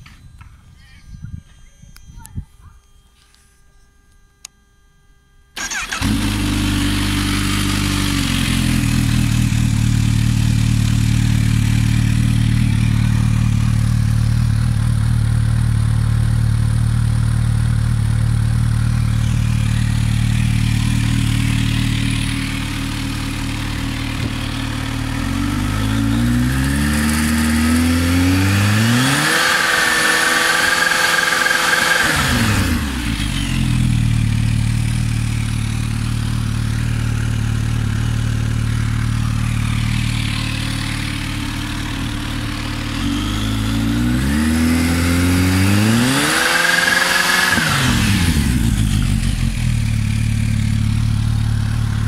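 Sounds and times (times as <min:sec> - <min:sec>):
motorcycle engine idling and revving: 0:05.6 - 0:52.0.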